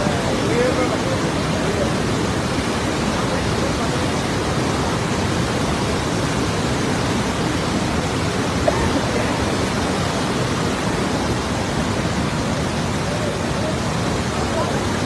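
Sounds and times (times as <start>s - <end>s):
flooded river roaring: 0.0s - 15.0s.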